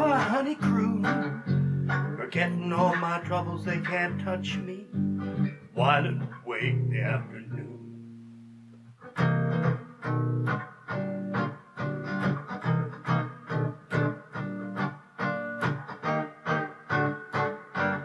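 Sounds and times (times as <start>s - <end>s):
guitar chords strummed: 0.0s - 18.0s.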